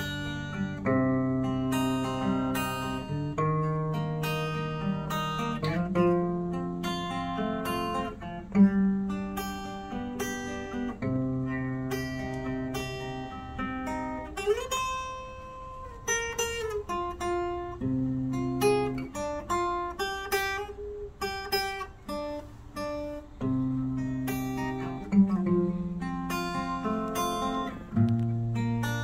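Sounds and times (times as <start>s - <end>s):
acoustic guitar picking melody: 0.0s - 29.0s.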